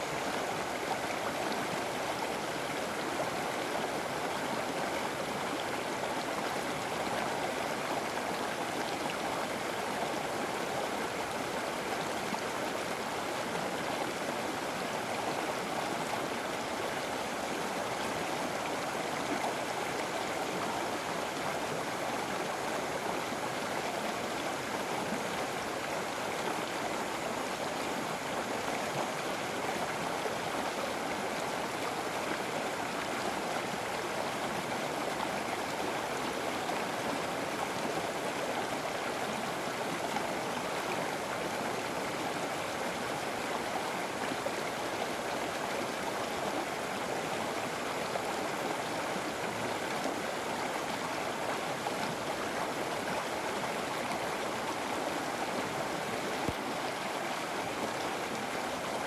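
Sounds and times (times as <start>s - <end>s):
river water flowing over rocks: 0.0s - 59.0s.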